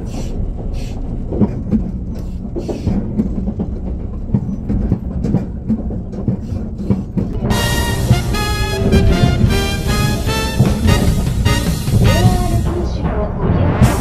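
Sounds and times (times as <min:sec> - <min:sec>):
train running at speed: 0:00.0 - 0:14.0
wheels clacking over rails: 0:00.0 - 0:14.0.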